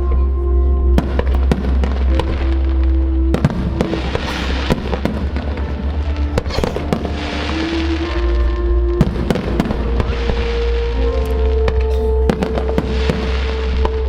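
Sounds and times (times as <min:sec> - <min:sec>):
music playing: 0:00.0 - 0:14.0
fireworks bangs and crackling: 0:01.0 - 0:14.0.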